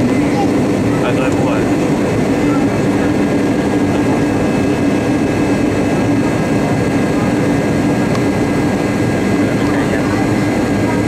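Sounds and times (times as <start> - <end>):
jet engine cabin rush: 0.0 - 11.0.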